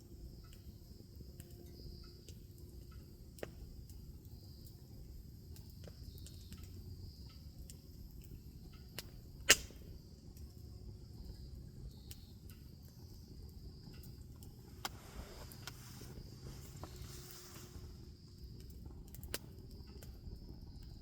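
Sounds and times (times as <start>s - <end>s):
low steady rumble: 0.0s - 21.0s
wood fire crackling: 0.0s - 21.0s.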